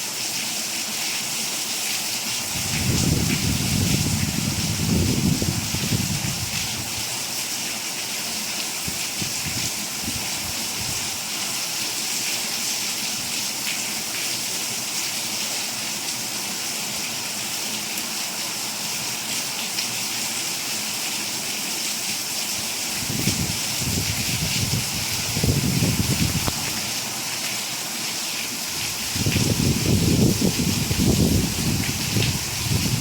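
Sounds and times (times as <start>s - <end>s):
steady rainfall: 0.0s - 33.0s.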